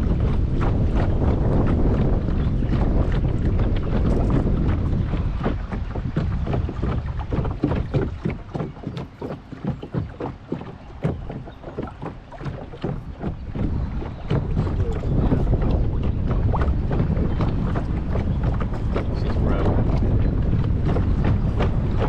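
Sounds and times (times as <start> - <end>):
water lapping against boat: 0.0 - 22.0
wind buffeting microphone: 0.0 - 22.0.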